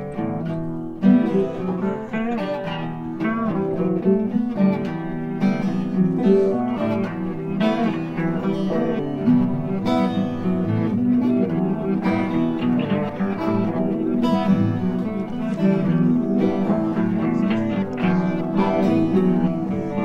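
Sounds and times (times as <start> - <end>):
acoustic guitar strummed and picked: 0.0 - 20.0.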